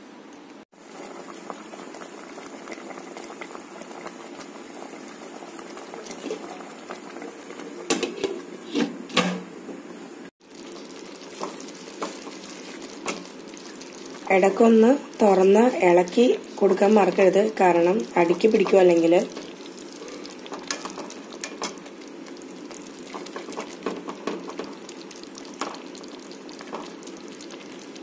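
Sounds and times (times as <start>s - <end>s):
gravy bubbling in a pan: 0.7s - 9.0s, 10.4s - 28.0s.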